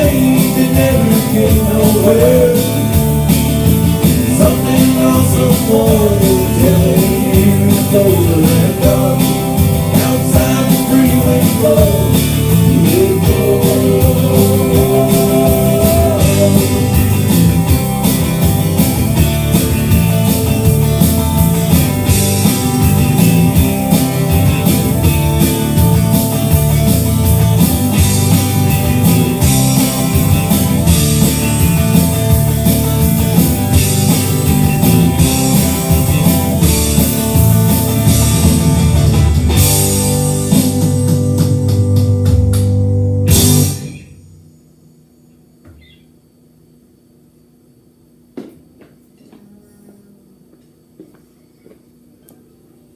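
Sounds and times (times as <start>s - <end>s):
country rock band playing: 0.0s - 44.2s
gliding lead guitar line: 0.0s - 44.3s.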